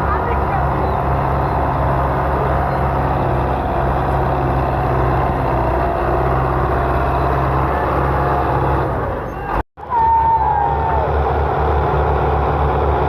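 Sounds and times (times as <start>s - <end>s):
tractor diesel engine running: 0.0s - 9.6s, 10.5s - 13.0s.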